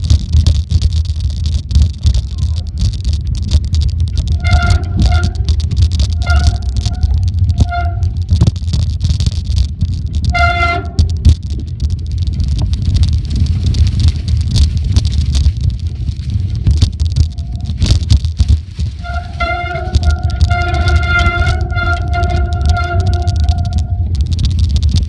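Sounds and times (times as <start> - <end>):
bike rattles and knocks: 0.0 - 25.0
wind and tyres rumbling: 0.0 - 25.0.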